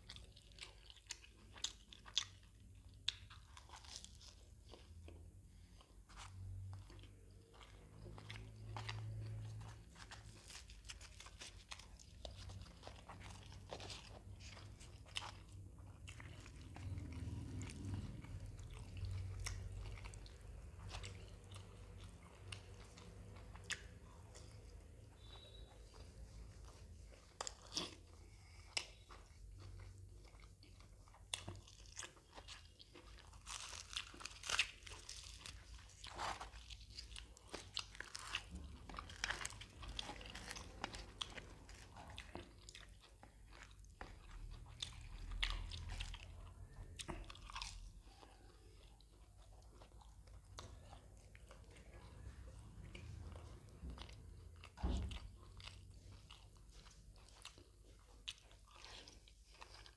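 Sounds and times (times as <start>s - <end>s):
crunchy bites and chewing: 0.0s - 4.9s, 6.1s - 25.7s, 27.4s - 51.8s.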